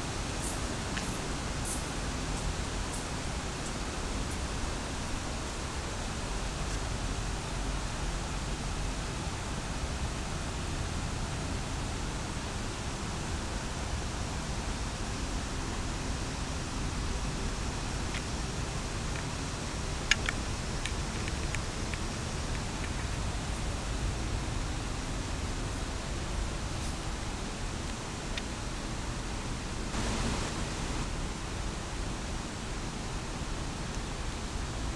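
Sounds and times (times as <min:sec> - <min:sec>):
steady rushing noise: 0:00.0 - 0:33.8.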